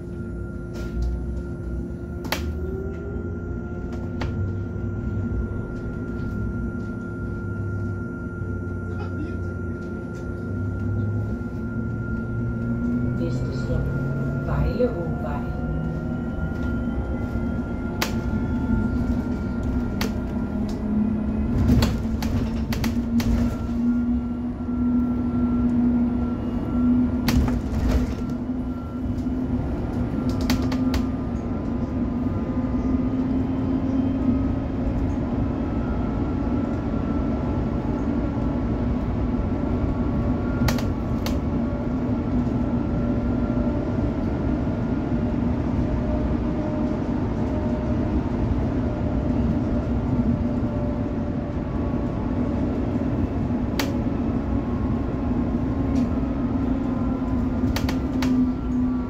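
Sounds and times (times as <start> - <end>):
bus drive hum: 0.0 - 59.0
low road rumble: 0.0 - 59.0.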